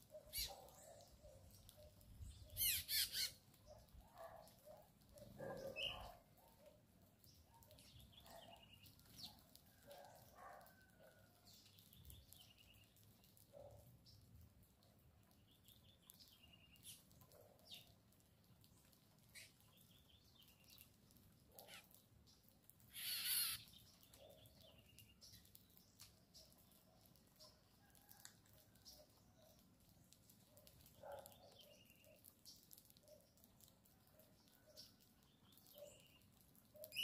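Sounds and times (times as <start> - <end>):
small birds chirping: 0.0 - 28.1, 28.7 - 37.0.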